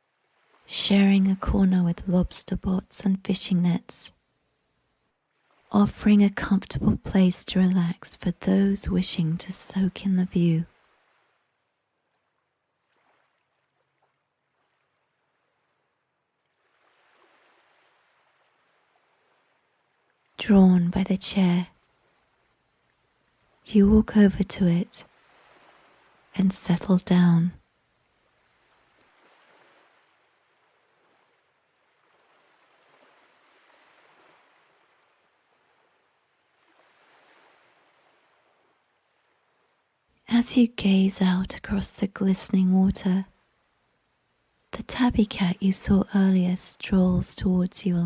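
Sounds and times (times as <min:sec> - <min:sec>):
faint sea waves washing: 0:00.0 - 0:48.0.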